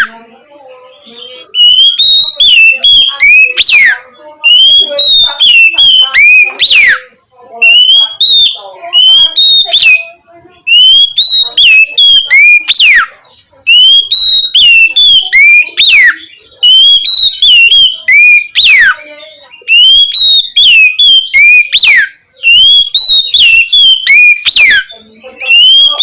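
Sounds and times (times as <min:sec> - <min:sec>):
bird whistling song: 0:00.0 - 0:26.0.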